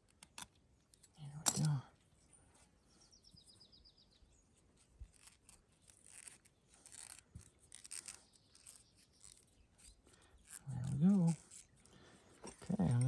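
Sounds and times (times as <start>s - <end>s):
faint rustling of leather strap: 0.0s - 13.0s.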